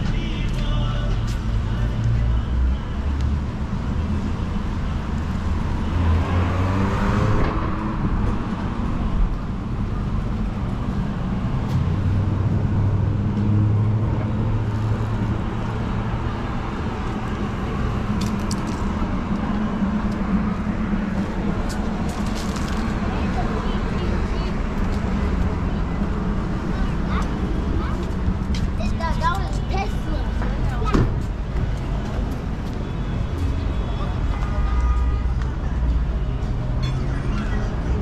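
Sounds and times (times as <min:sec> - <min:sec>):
car engine and tyre noise: 0:00.0 - 0:38.0.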